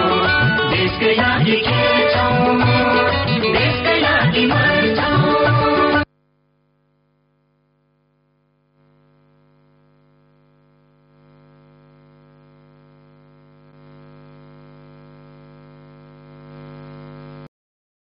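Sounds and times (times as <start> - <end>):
buzzy electrical mains hum: 0.0 - 17.5.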